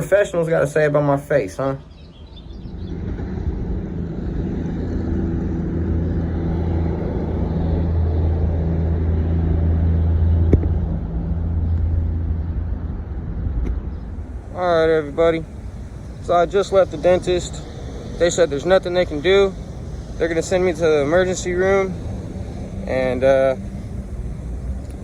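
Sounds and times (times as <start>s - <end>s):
car engine and road hum: 2.0s - 25.0s.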